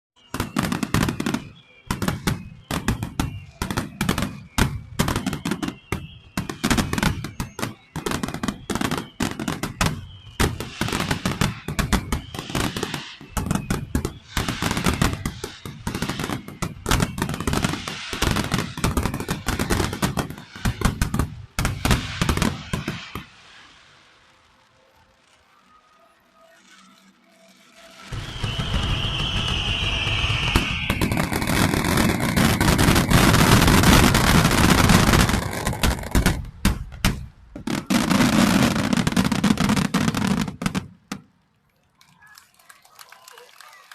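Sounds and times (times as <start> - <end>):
fireworks bangs: 0.2 - 25.8, 27.7 - 41.3
fireworks crackle: 0.2 - 43.9.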